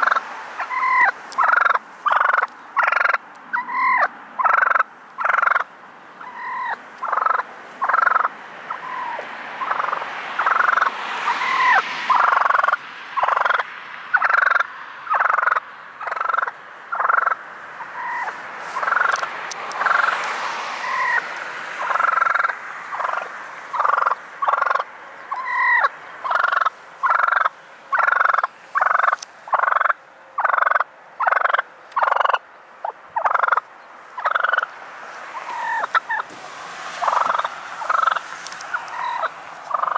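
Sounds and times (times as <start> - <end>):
wild turkey calling: 0.0 - 36.3, 36.9 - 39.9.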